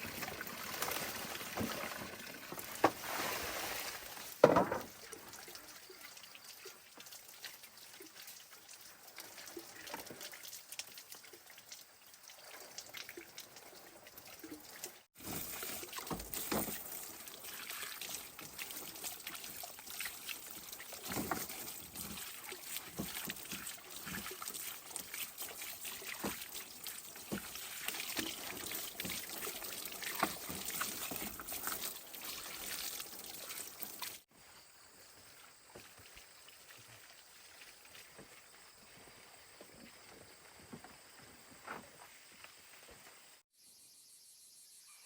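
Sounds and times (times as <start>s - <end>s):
small splashes and knocks: 0.0s - 34.3s, 35.2s - 38.7s
water pouring and trickling: 0.0s - 34.3s, 35.2s - 39.3s.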